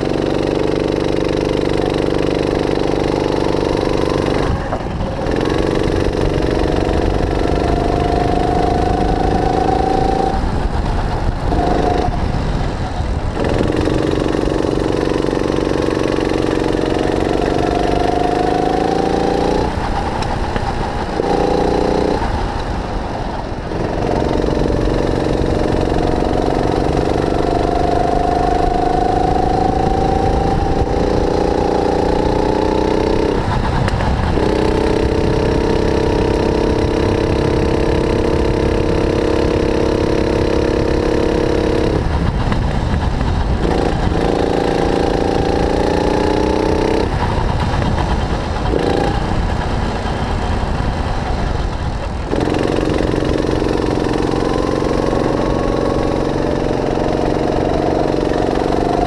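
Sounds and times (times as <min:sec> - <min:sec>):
kart engine at full throttle: 0:00.0 - 0:59.0
rising engine whine: 0:00.0 - 0:59.0.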